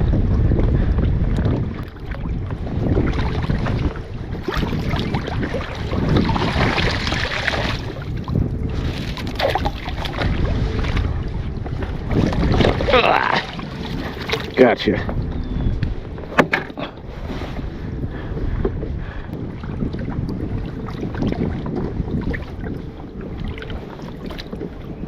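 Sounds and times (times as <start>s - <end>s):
wind rumbling on microphone: 0.0s - 25.0s
water sloshing and splashing: 0.3s - 17.7s, 19.4s - 25.0s.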